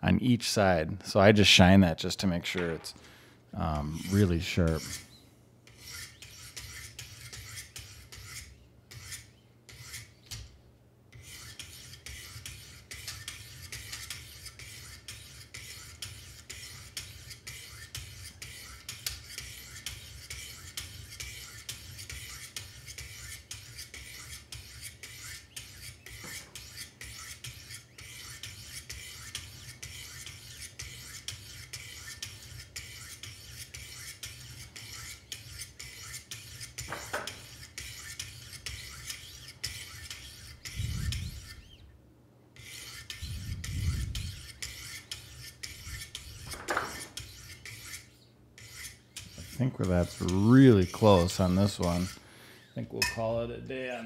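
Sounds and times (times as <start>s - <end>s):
sharpening stones rasping on knife: 3.9s - 5.0s, 5.7s - 10.5s, 11.1s - 41.8s, 42.6s - 53.2s.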